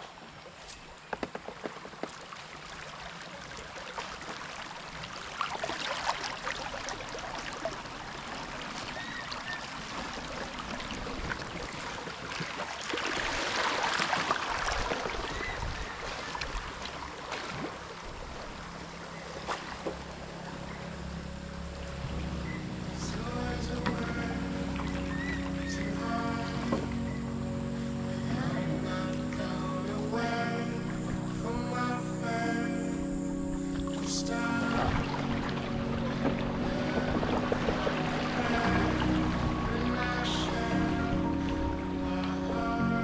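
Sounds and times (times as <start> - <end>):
stream water rushing and splashing: 0.0 - 43.0.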